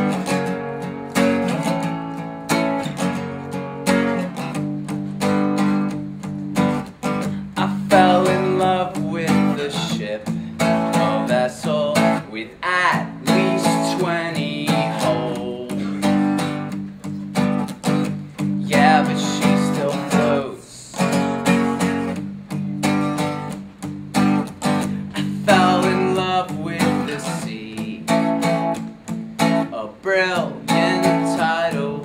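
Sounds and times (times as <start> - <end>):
acoustic guitar strumming chords: 0.0 - 32.0.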